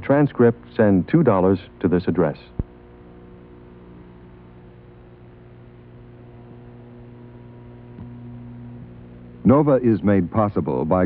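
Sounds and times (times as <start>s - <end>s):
mains hum: 0.0s - 11.0s
tape hiss: 0.0s - 11.0s.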